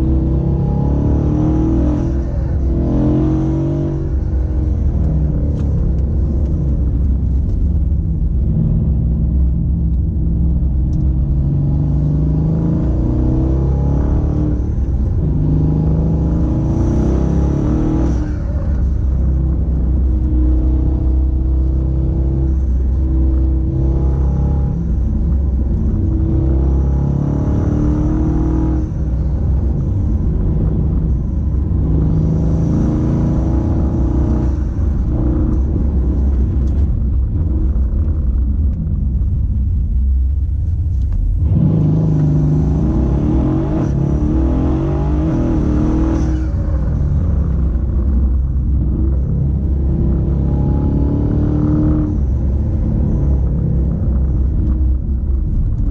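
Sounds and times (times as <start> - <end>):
car engine accelerating: 0.0 - 55.9
road noise hum: 0.0 - 55.9.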